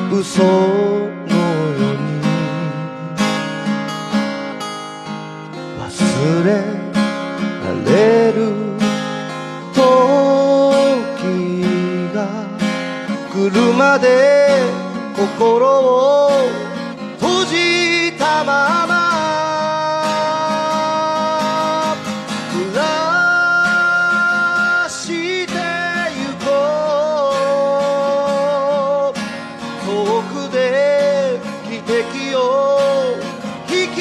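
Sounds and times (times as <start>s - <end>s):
man singing with vibrato: 0.0s - 4.1s, 5.5s - 34.0s
strummed acoustic guitar: 0.0s - 34.0s.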